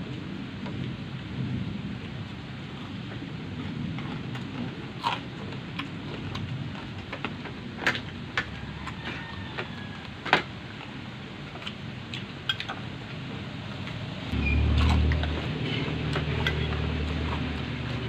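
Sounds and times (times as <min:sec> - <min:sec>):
chewing and crunching food: 0:02.0 - 0:18.0.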